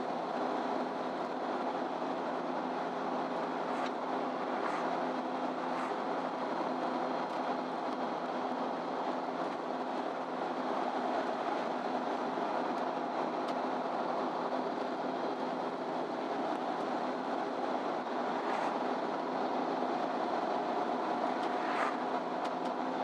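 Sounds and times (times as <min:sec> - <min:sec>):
bus engine drone: 0:00.0 - 0:23.0
road and tyre noise: 0:00.0 - 0:23.0.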